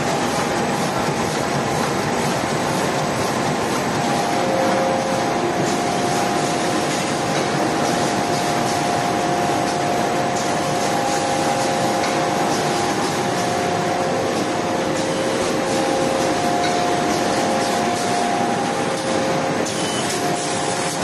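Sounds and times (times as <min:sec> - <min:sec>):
paper cutting machine humming: 0:00.0 - 0:21.0.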